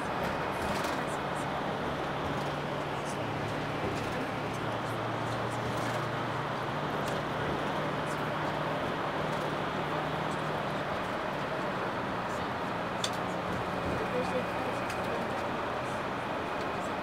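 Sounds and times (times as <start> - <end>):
low engine hum: 0.0 - 17.0
tyre and wind road noise: 0.0 - 17.0.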